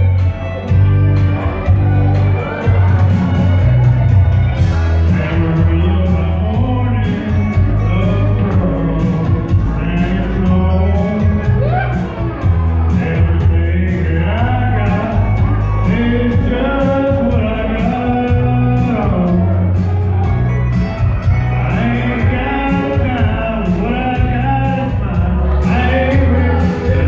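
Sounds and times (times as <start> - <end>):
backing track with heavy bass: 0.0 - 27.0
person singing slow song: 4.7 - 27.0.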